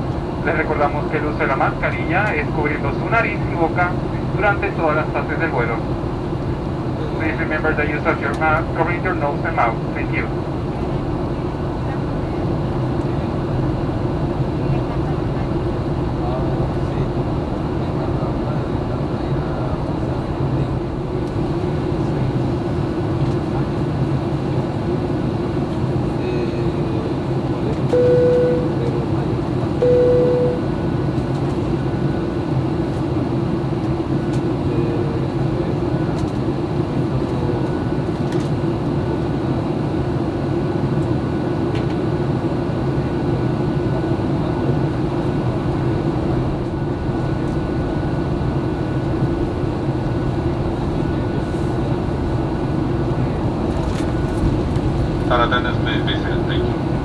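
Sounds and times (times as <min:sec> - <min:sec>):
airplane cabin engine noise: 0:00.0 - 0:57.0.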